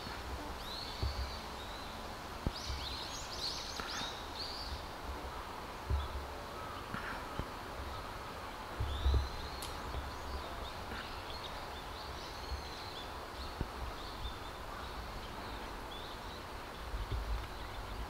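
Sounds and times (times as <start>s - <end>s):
outdoor background hiss: 0.0s - 18.0s
small birds chirping: 0.0s - 18.0s.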